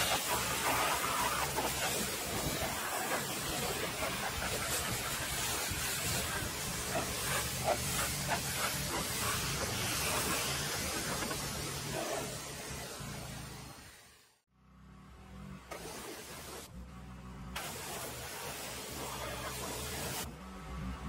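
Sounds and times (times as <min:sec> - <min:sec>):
pressure washer spraying: 0:00.0 - 0:14.1, 0:15.7 - 0:16.7, 0:17.6 - 0:20.3.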